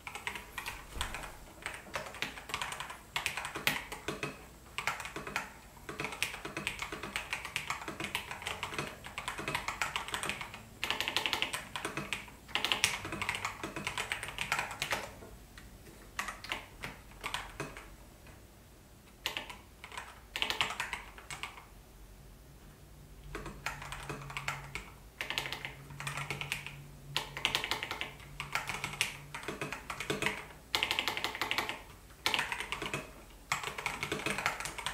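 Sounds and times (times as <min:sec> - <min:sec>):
mechanical keyboard typing: 0:00.0 - 0:15.2, 0:16.1 - 0:17.9, 0:19.2 - 0:21.7, 0:23.2 - 0:34.9.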